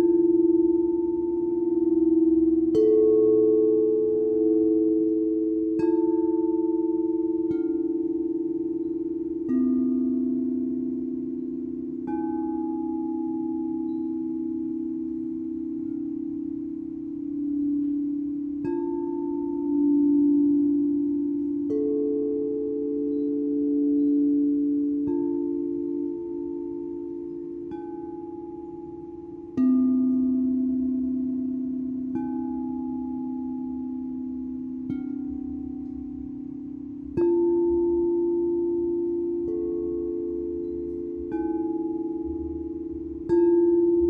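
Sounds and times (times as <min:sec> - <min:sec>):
singing bowls ringing: 0:00.0 - 0:44.0.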